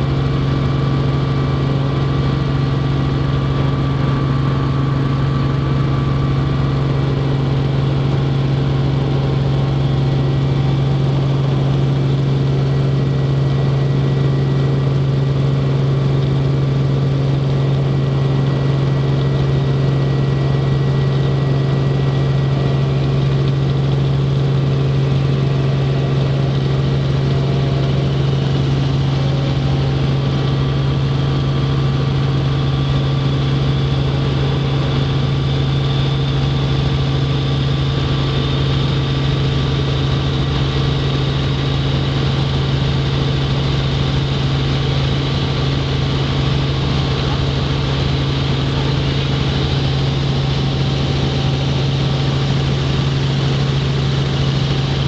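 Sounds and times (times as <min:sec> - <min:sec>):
helicopter engine and rotors droning: 0:00.0 - 0:55.0.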